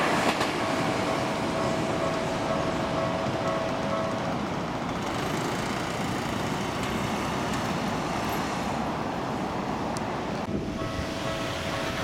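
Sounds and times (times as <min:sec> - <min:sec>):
passing train rumble: 0:00.0 - 0:12.0
road traffic: 0:00.0 - 0:12.0.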